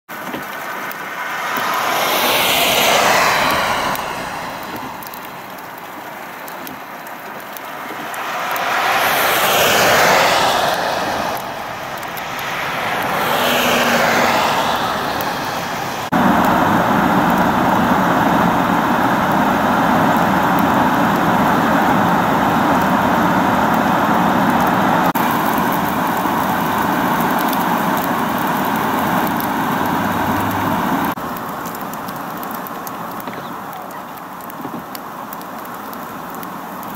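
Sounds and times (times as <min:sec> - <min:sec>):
cars passing on wet road: 0:00.1 - 0:36.9.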